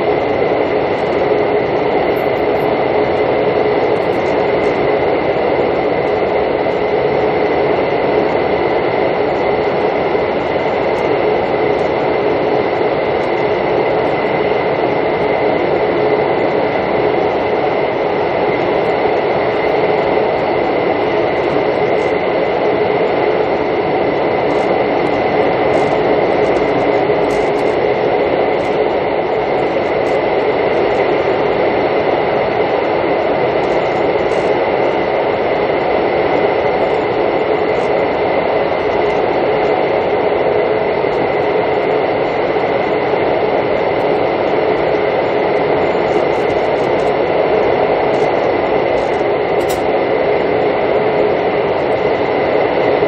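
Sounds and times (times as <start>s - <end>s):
thin steady whine: 0.0s - 53.0s
train coach hum and rumble: 0.0s - 53.0s.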